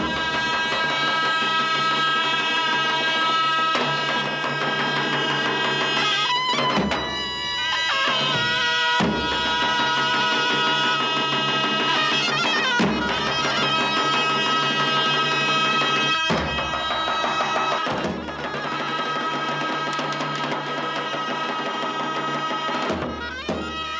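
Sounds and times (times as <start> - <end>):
heavy drum strokes: 0.0 - 23.9
reedy wind instrument melody: 0.0 - 23.9.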